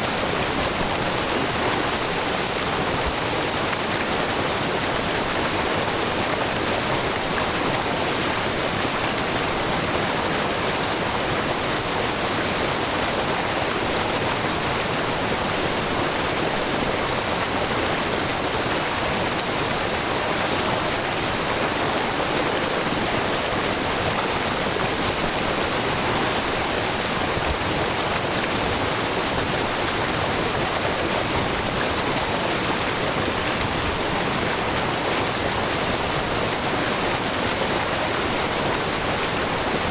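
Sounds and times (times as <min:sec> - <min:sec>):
waterfall rushing into a pool: 0:00.0 - 0:39.9.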